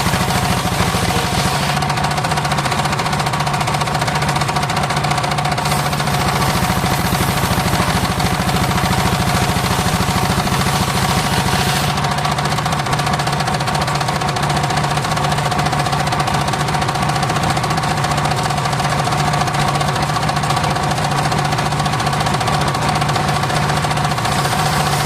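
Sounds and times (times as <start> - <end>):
engine knocking beat: 0.0 - 25.0
sawmill whine: 0.0 - 25.0.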